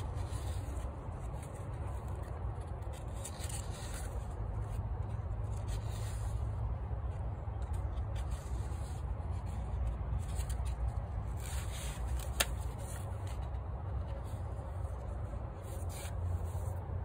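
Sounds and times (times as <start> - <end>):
paper pages rustling: 0.0 - 17.0
steady low hum: 0.0 - 17.0.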